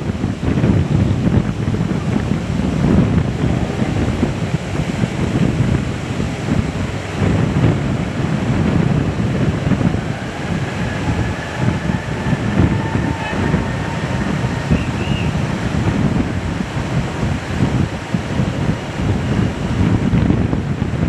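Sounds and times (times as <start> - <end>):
jet engine whine: 0.0 - 21.0
wind buffeting microphone: 0.0 - 21.0.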